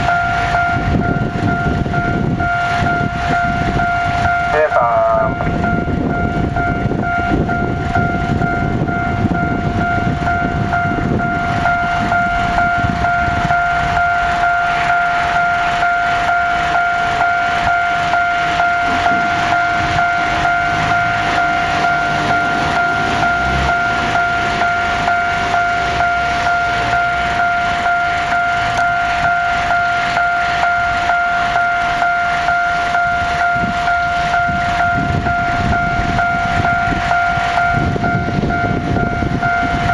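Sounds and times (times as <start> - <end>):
freight train clattering past: 0.0 - 39.9
level crossing bell ringing: 0.0 - 39.9.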